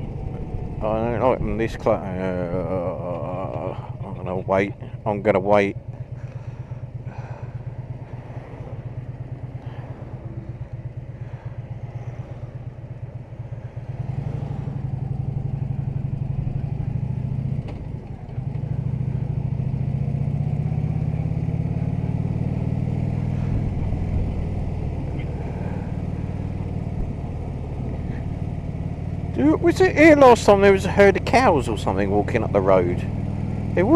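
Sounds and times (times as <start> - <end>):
motorcycle engine idling and pulling away: 0.0 - 33.9.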